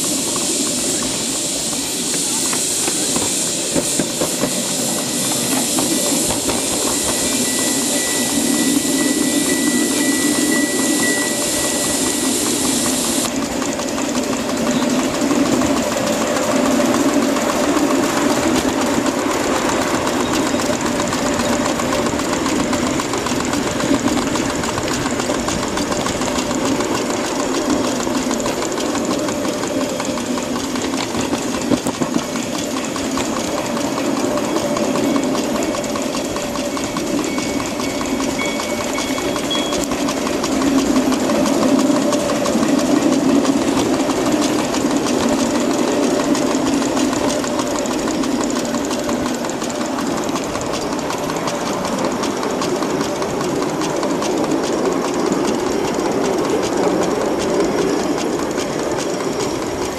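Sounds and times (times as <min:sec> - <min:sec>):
engine and wheels running: 0:00.0 - 0:59.9
steam locomotive exhaust beat: 0:00.0 - 0:59.9.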